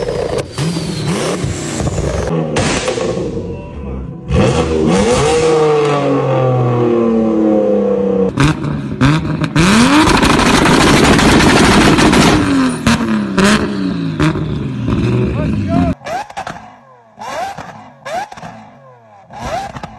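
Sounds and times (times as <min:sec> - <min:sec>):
car exhaust revving: 0:00.0 - 0:19.9.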